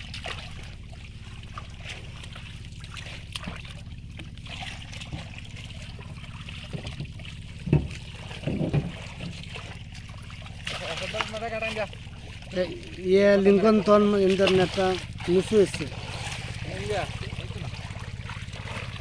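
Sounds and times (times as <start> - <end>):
steady low hum: 0.0 - 19.0
water splashing and trickling: 0.0 - 19.0.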